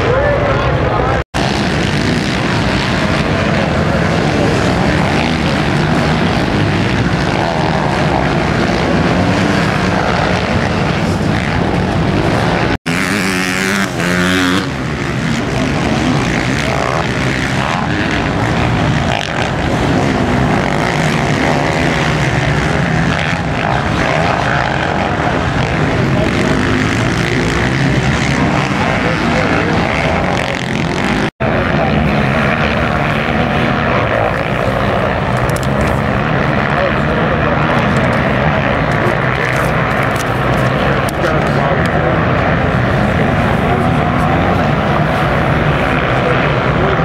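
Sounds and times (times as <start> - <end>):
motocross bike engines revving: 0.0 - 47.0
bike engine note rising and falling: 1.0 - 47.0.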